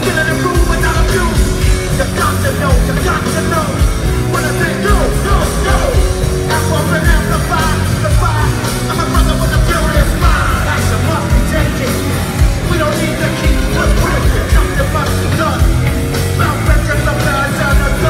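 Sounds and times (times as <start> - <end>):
live rock band playing: 0.0 - 18.0
vocalist on microphone: 0.0 - 18.0.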